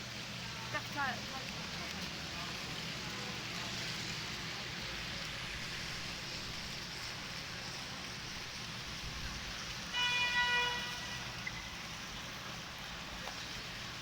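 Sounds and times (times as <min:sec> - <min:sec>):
city street ambience hiss: 0:00.0 - 0:14.0.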